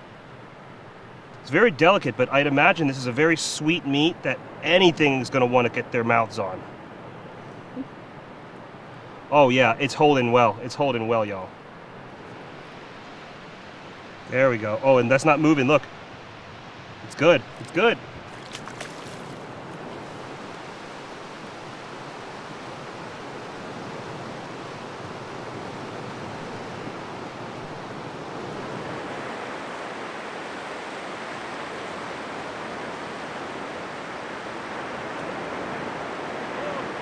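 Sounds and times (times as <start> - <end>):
ocean surf breaking: 1.8 - 37.0.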